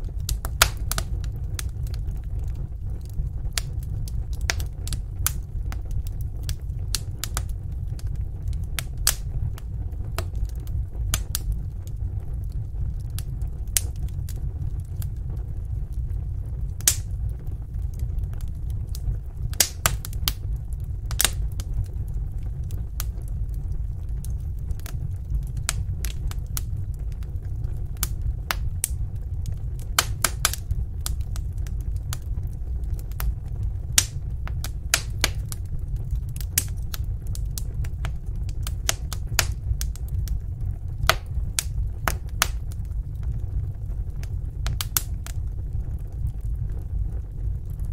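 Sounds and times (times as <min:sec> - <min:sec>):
fire crackles and pops: 0:00.0 - 0:47.9
low rumble of flames: 0:00.0 - 0:47.9.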